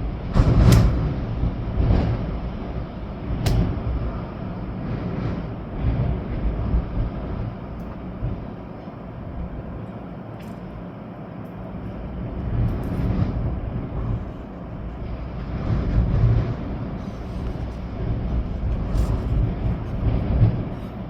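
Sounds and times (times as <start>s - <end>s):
wind rumbling on microphone: 0.0s - 9.9s, 11.6s - 21.0s
rain: 0.0s - 21.0s.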